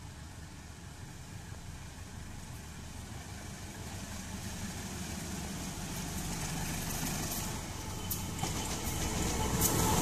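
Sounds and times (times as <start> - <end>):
locomotive engine rumble: 0.0 - 10.0.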